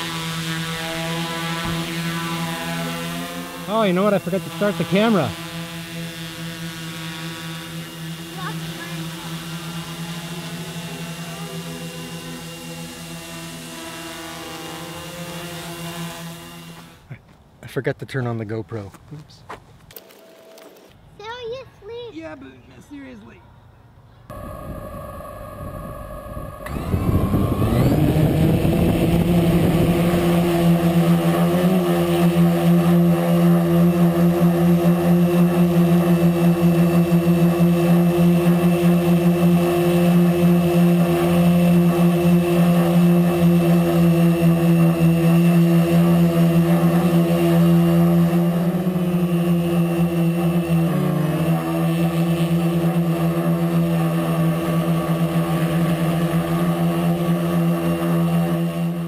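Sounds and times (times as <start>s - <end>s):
drone propellers humming: 0.0s - 17.2s, 24.3s - 59.0s.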